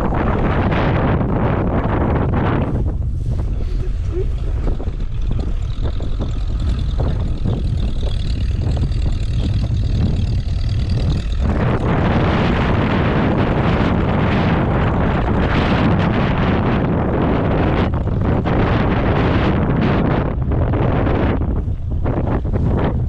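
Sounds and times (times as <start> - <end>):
tractor engines running: 0.0 - 23.0
wind buffeting microphone: 0.0 - 23.0.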